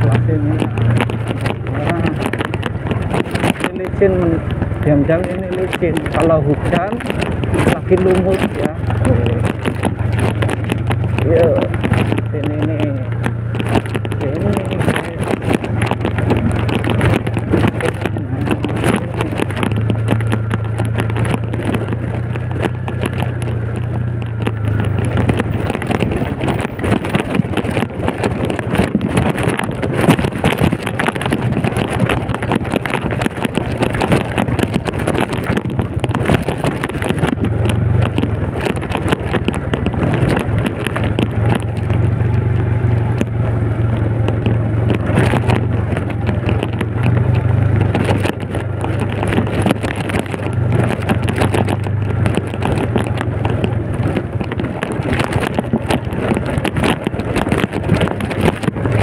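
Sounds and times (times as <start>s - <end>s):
dense rattling: 0.0s - 59.0s
small motorcycle engine running: 0.0s - 59.0s
wind noise on microphone: 0.0s - 59.0s.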